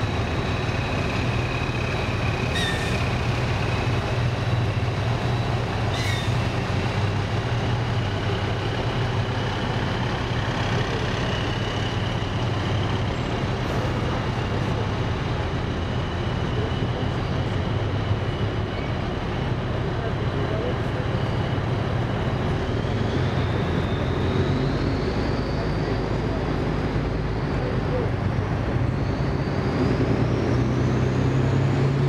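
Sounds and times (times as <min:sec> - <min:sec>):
heavy diesel vehicles driving past: 0:00.0 - 0:32.0.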